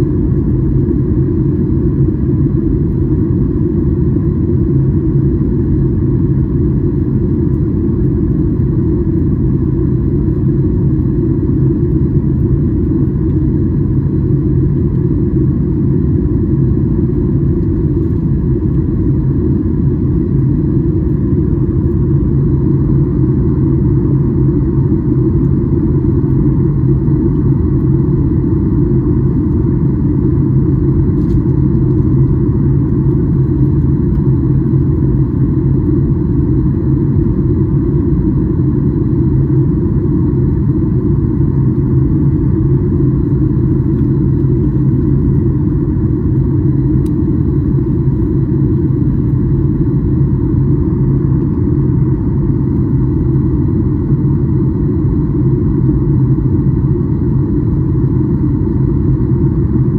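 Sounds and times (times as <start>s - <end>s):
airplane cabin engine rumble: 0.0s - 59.9s
constant low hum: 0.0s - 59.9s.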